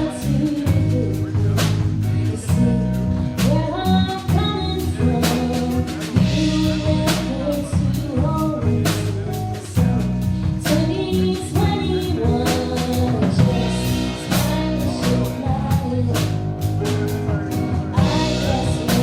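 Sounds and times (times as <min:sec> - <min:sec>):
live rock band playing: 0:00.0 - 0:19.0
person singing: 0:00.0 - 0:19.0.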